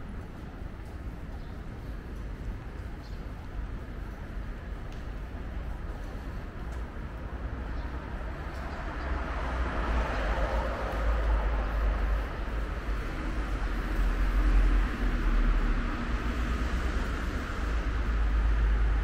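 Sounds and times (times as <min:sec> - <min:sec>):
train rumbling overhead: 0:00.0 - 0:19.0.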